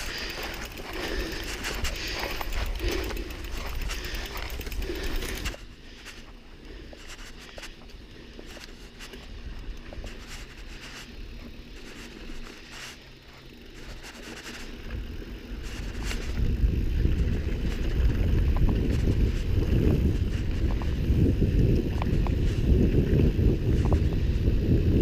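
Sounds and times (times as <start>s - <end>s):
bike tyres crunching on dirt: 0.0s - 25.0s
footsteps on dirt trail: 0.0s - 25.0s.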